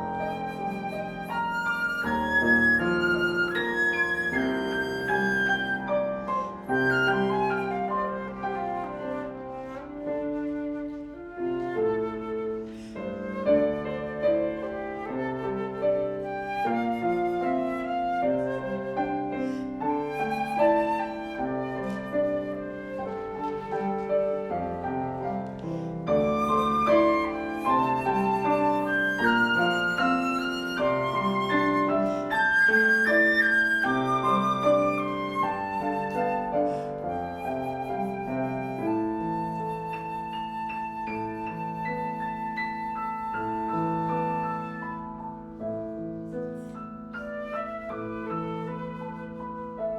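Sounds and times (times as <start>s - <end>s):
flute melody: 0.0s - 49.9s
piano playing: 0.0s - 49.9s.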